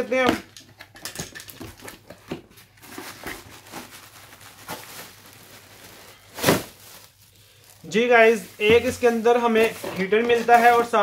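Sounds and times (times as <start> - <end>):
plastic bag rustling: 1.7 - 11.0.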